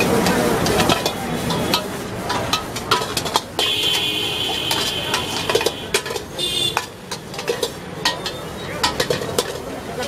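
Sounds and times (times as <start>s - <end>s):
frying hiss: 0.0s - 10.0s
ladle clanking against wok: 0.0s - 10.0s.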